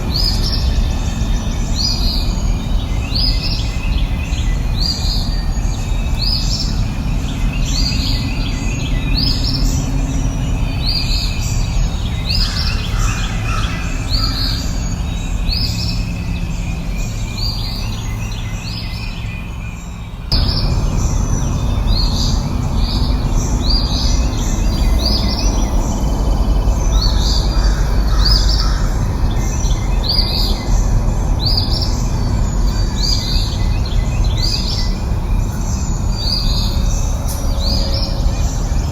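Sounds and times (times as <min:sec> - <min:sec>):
bird chirping: 0:00.0 - 0:38.9
low rushing background: 0:00.0 - 0:38.9.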